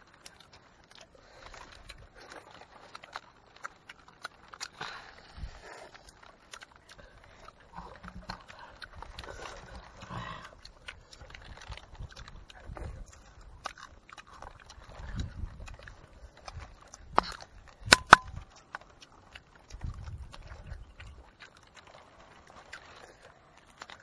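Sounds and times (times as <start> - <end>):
chewing and lip-smacking: 0.0 - 24.0
small wet clicks: 0.0 - 24.0.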